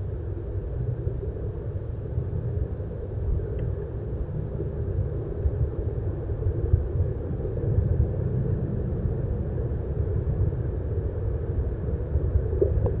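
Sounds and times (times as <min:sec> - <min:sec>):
faint even hum: 0:00.0 - 0:13.0
low outdoor rumble: 0:00.0 - 0:13.0.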